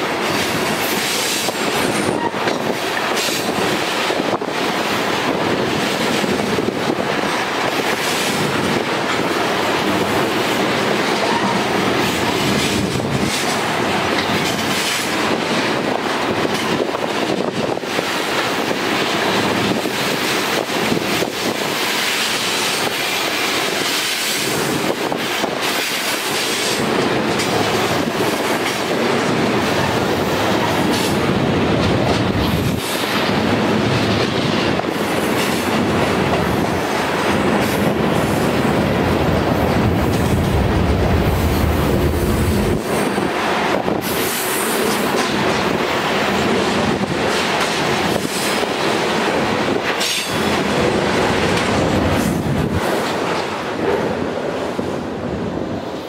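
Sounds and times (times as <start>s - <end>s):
train wheels clattering over rails: 0.0s - 54.8s.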